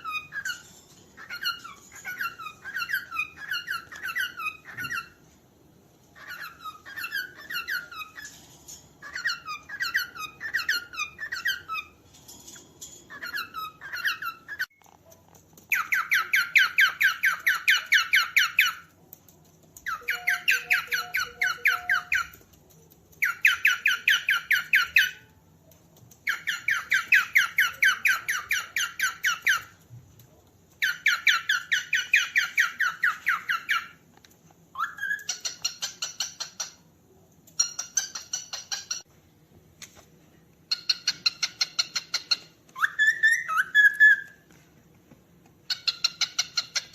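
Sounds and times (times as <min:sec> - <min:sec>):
cockatiel chirping: 0:00.0 - 0:05.3, 0:06.2 - 0:08.4, 0:09.0 - 0:12.0, 0:13.1 - 0:25.4, 0:26.0 - 0:29.8, 0:30.7 - 0:34.0, 0:34.7 - 0:36.9, 0:37.5 - 0:39.1, 0:40.7 - 0:44.5, 0:45.6 - 0:46.9.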